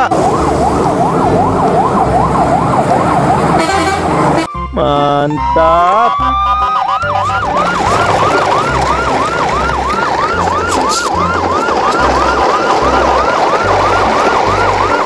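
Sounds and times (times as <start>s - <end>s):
electronic yelp siren: 0.0s - 15.0s.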